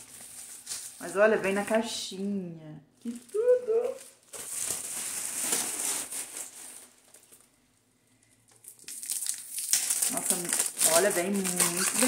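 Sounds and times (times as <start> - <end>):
packaging rustling and crinkling: 0.0 - 1.7, 3.0 - 7.6, 8.4 - 12.0.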